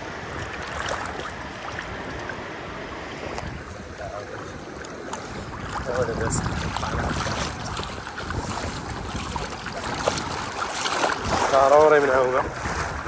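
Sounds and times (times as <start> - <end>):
small water splashes: 0.0 - 13.0
water swishing around wading person: 0.0 - 13.0
wind on microphone: 0.0 - 13.0.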